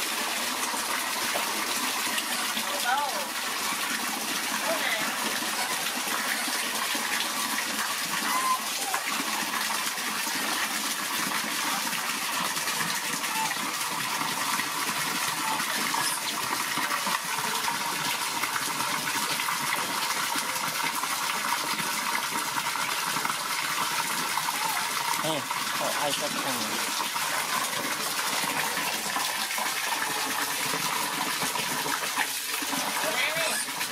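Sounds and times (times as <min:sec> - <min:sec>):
water pouring and splashing: 0:00.0 - 0:33.9.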